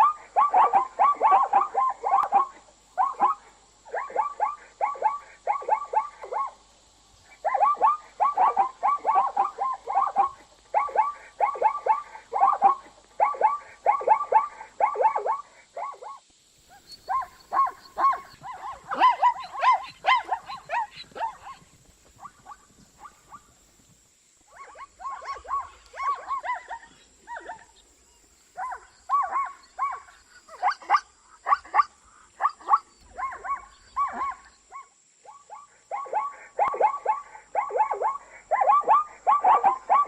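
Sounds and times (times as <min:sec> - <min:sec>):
zebra barking yelps: 0:00.0 - 0:06.6, 0:07.3 - 0:23.6, 0:24.5 - 0:40.0.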